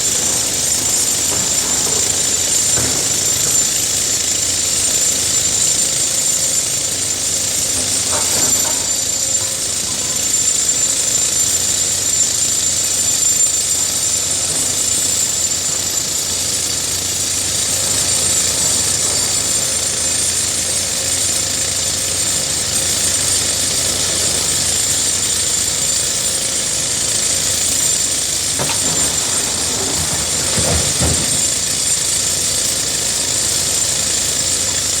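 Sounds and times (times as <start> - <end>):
excavator working: 0.0 - 35.0.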